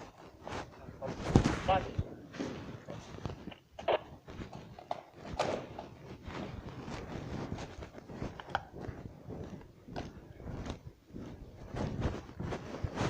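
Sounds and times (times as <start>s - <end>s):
footsteps walking: 0.0s - 13.0s.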